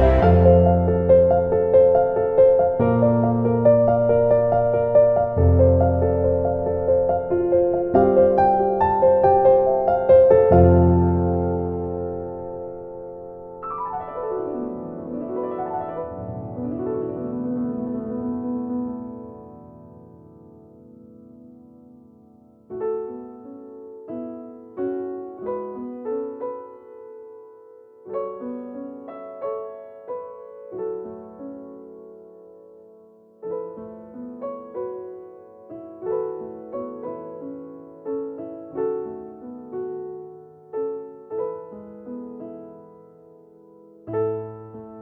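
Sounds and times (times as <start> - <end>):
gentle piano melody: 0.0 - 45.0.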